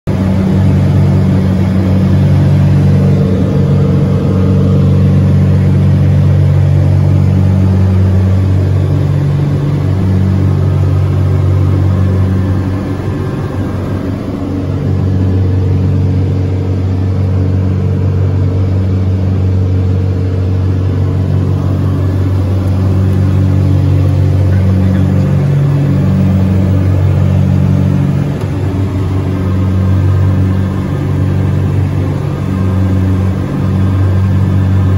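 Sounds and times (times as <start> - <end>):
propeller airplane engines droning: 0.1 - 34.9.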